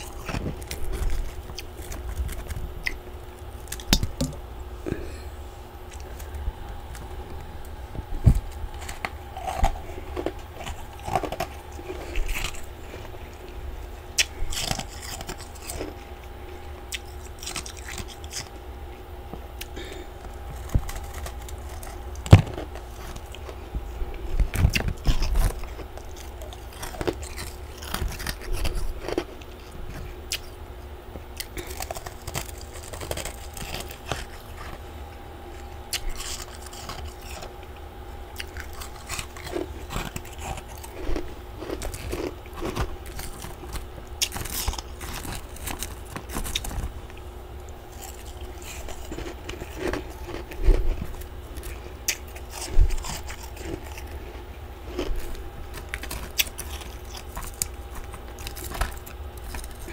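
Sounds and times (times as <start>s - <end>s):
person crunching frost: 0.0s - 30.6s, 31.3s - 59.9s.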